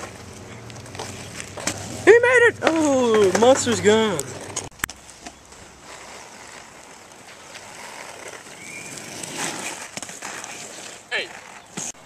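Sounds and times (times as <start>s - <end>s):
inline skate wheels rolling on asphalt: 0.0s - 12.0s.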